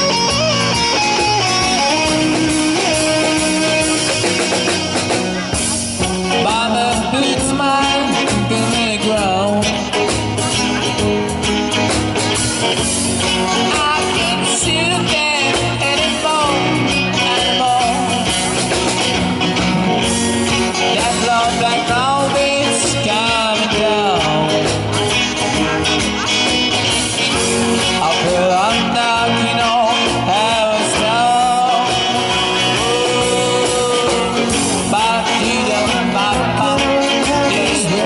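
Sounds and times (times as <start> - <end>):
bass and drums: 0.0 - 38.0
lead guitar line: 0.0 - 38.0.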